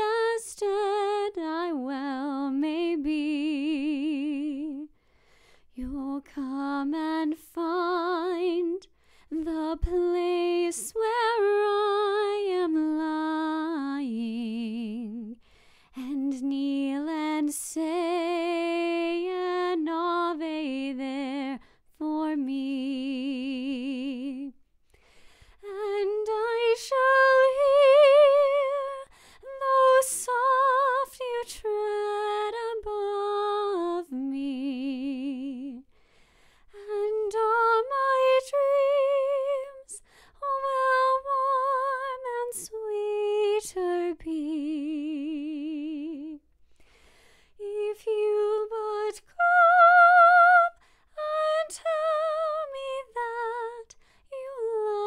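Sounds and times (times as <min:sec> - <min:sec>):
woman singing unaccompanied: 0:00.0 - 0:04.9, 0:05.8 - 0:15.4, 0:16.0 - 0:24.6, 0:25.6 - 0:35.9, 0:36.7 - 0:46.4, 0:47.6 - 0:55.0.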